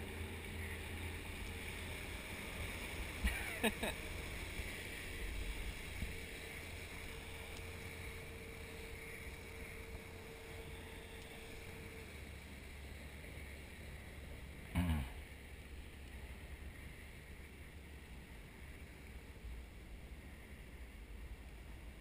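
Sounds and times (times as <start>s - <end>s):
boat motor running: 0.0s - 22.0s
faint steady hum: 0.0s - 22.0s.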